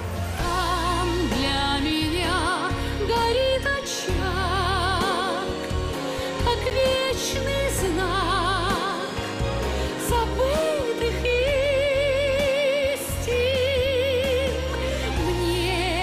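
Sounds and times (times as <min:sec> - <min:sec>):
band accompaniment: 0:00.0 - 0:16.0
woman singing pop ballad: 0:00.2 - 0:16.0.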